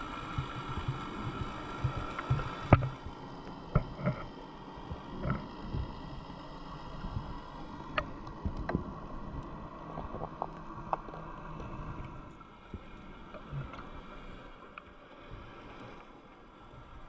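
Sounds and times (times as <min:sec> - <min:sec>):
underwater rumble and hiss: 0:00.0 - 0:17.0.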